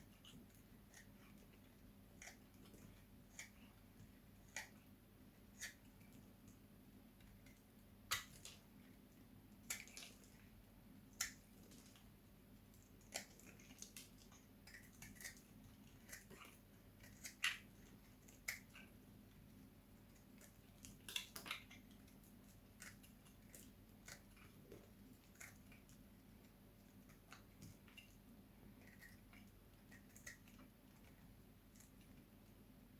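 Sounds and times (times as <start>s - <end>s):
knife cracking dried soap: 0.0s - 6.6s, 7.2s - 8.7s, 9.5s - 10.4s, 11.1s - 19.0s, 20.0s - 32.2s.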